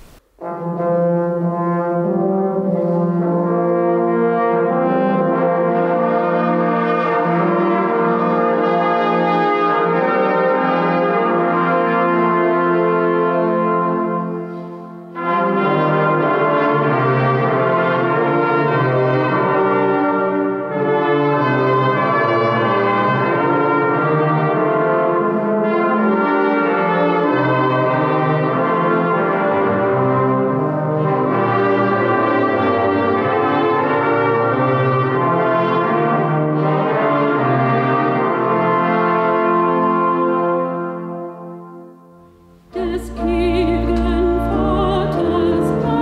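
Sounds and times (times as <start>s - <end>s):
brass ensemble playing chorale: 0.4s - 46.0s.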